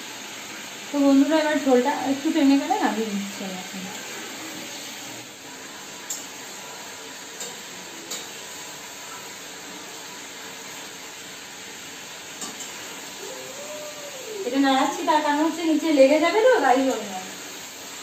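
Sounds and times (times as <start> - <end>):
gas burner hiss: 0.0 - 18.0.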